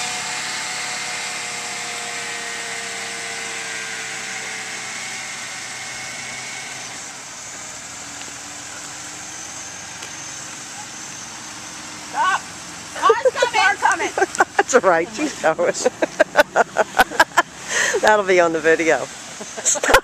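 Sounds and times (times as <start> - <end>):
car engine pulling away: 0.0 - 20.0
tyre and road hiss: 0.0 - 20.0.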